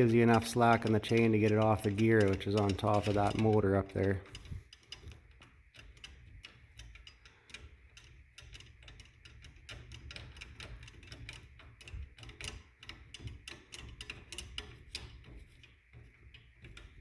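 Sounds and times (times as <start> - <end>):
metallic clicking of chain adjuster: 0.0 - 17.0.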